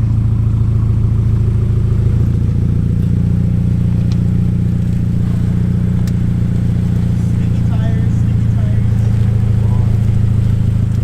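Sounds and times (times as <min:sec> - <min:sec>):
car engine droning: 0:00.0 - 0:11.0
road noise: 0:00.0 - 0:11.0.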